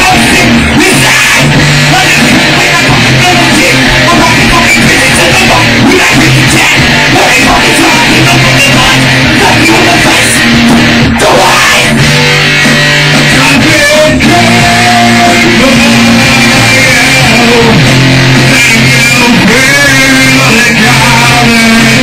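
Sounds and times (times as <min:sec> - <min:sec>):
shouted vocals into a microphone: 0:00.0 - 0:12.2, 0:13.2 - 0:22.0
heavy rock music: 0:00.0 - 0:22.0.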